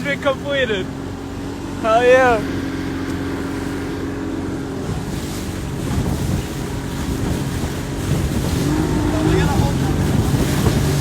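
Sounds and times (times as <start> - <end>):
outboard motor rumbling: 0.0 - 11.0
water rushing past boat hull: 0.0 - 11.0
wind buffeting microphone: 0.7 - 11.0.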